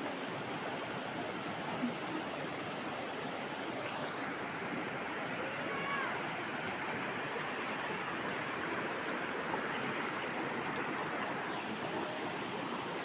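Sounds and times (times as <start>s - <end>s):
river water splashing over stones: 0.0s - 13.0s.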